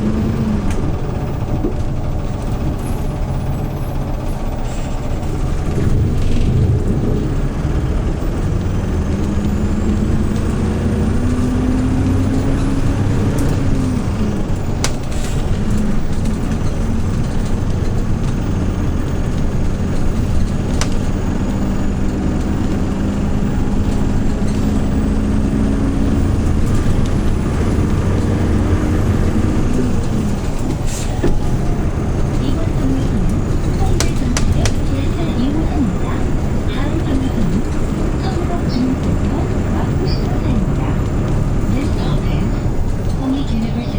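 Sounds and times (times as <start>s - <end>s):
bus engine pulling away: 0.0s - 43.9s.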